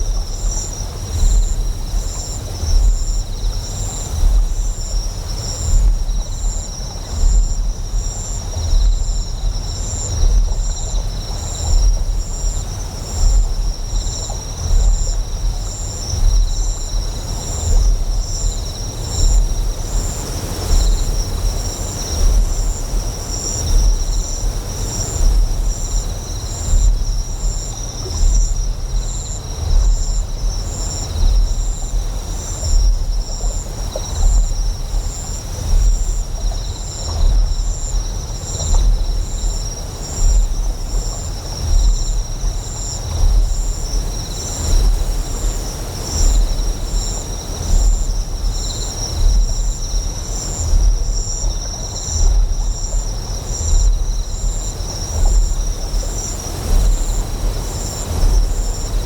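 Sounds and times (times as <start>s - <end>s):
flowing water: 0.0s - 59.0s
insects chirring: 0.0s - 59.0s.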